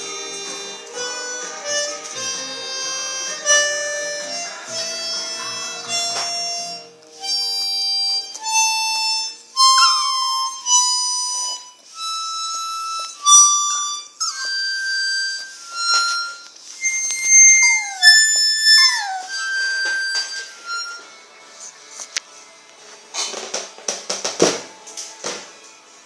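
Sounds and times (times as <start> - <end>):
harmonica playing: 0.0 - 24.2.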